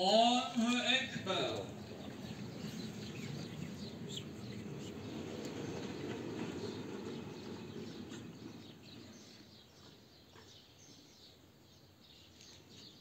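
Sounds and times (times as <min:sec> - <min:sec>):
small birds chirping faintly: 0:00.0 - 0:13.0.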